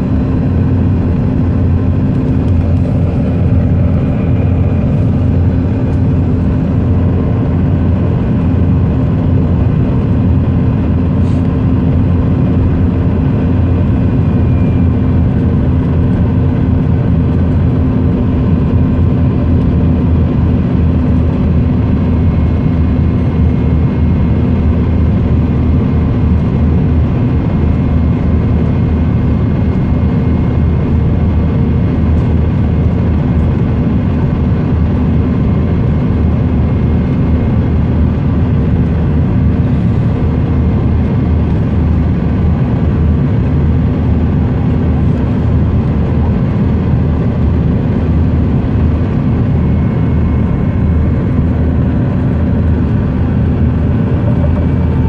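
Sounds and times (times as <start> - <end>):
deep cabin hum: 0.0 - 55.0
jet engine and airflow rush: 0.0 - 55.0.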